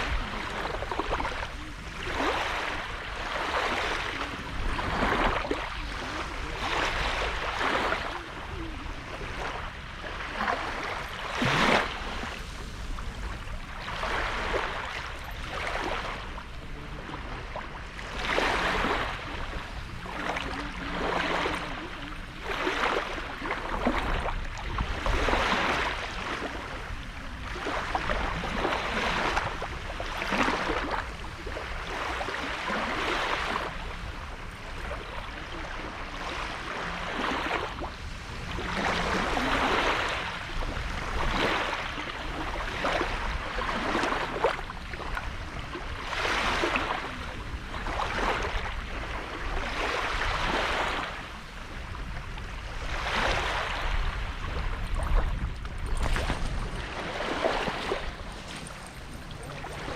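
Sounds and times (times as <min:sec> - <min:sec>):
small sea waves breaking: 0:00.0 - 0:59.9.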